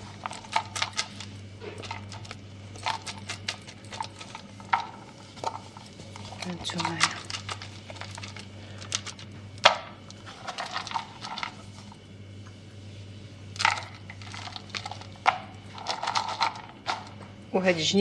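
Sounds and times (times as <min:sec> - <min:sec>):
nut pieces scraping and rattling: 0:00.0 - 0:12.0, 0:13.6 - 0:17.3.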